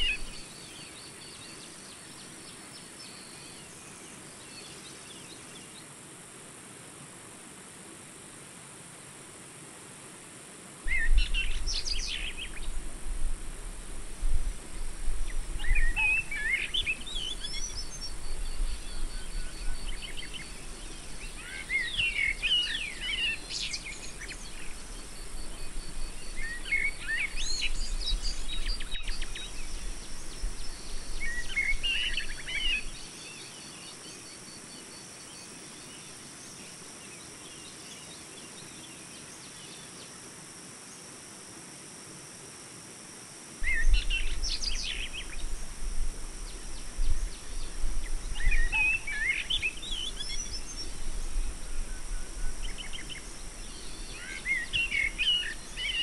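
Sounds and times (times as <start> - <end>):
birds chirping: 0.0 - 5.8, 10.9 - 12.8, 14.4 - 39.3, 43.6 - 56.0.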